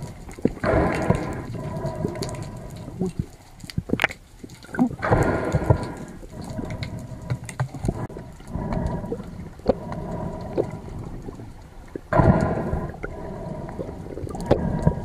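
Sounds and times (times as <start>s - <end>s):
sharp clicks and crackles: 0.0s - 15.0s
water sloshing and rushing: 0.0s - 15.0s.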